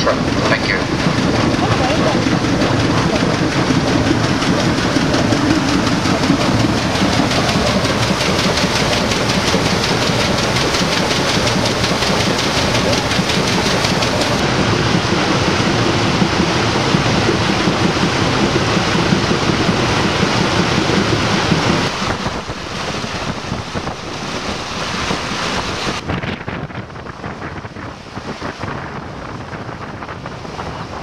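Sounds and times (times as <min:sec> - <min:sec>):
churned water rushing: 0:00.0 - 0:31.0
wind buffeting microphone: 0:00.0 - 0:31.0.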